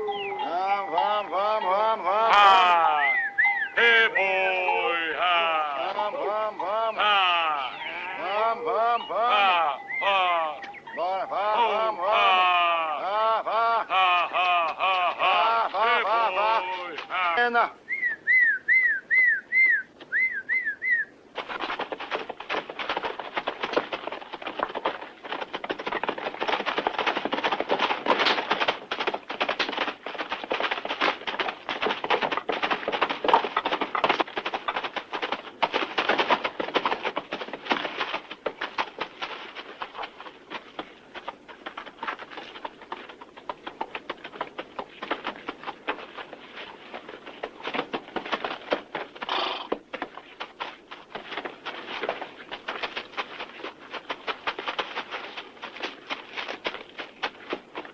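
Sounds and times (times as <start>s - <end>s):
galloping hooves clatter: 0.0s - 19.3s, 20.0s - 57.9s.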